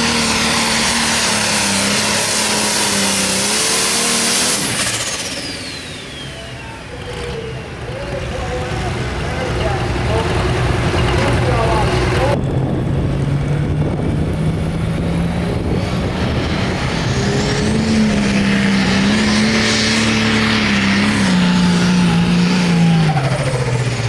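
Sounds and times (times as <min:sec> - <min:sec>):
diesel tractor engine under load: 0:00.0 - 0:24.0.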